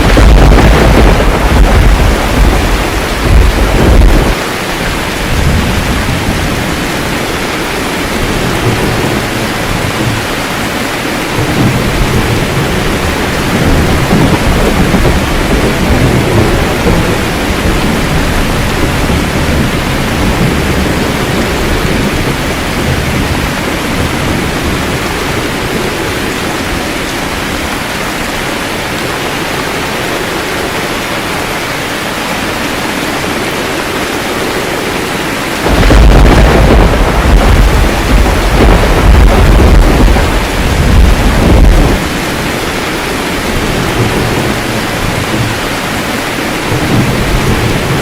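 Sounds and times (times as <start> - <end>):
steady rain: 0.0 - 48.0
thunder rumble: 0.0 - 48.0.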